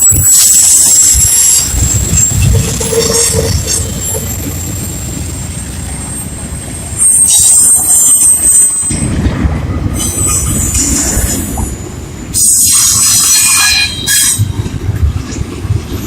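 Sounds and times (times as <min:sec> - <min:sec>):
high wheel squeal: 0:00.0 - 0:09.2, 0:10.0 - 0:14.5
train rumbling past: 0:00.0 - 0:16.0.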